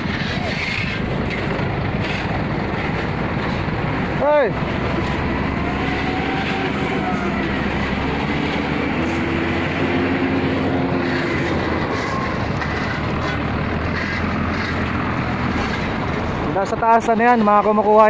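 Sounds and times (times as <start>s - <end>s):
diesel truck engines rumbling: 0.0s - 18.0s.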